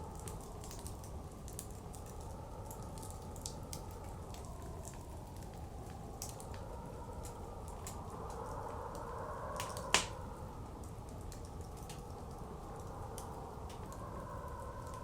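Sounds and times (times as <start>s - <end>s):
blizzard wind: 0.0s - 15.0s
wood fire crackling and popping: 0.0s - 15.0s.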